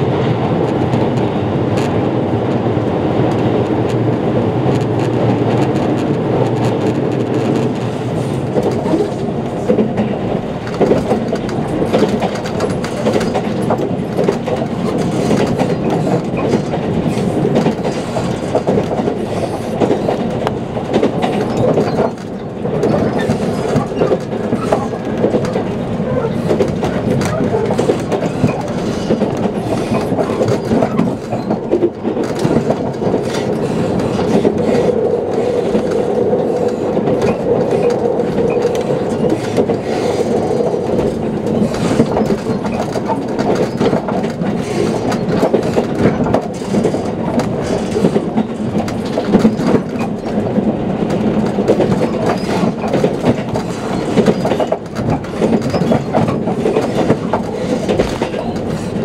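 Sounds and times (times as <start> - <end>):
train wheels rumbling on rail: 0.0 - 59.0
rapid track clicks: 0.2 - 59.0.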